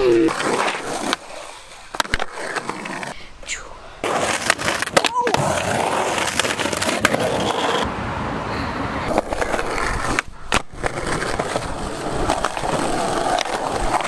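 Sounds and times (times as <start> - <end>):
skateboard wheels rolling on concrete: 0.0 - 14.0.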